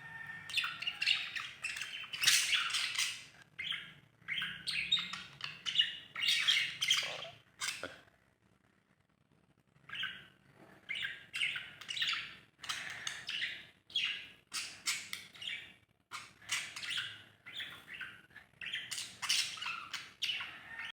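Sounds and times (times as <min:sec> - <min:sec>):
parrots chirping and squawking: 0:00.0 - 0:08.0, 0:09.8 - 0:21.0.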